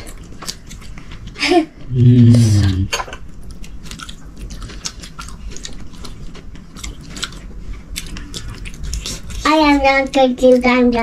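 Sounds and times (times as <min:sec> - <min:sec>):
biting and chewing food: 0:00.0 - 0:11.0.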